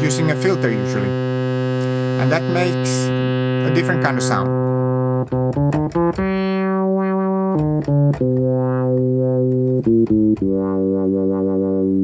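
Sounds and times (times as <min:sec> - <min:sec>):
analog synthesizer notes with filter sweep: 0:00.0 - 0:12.0.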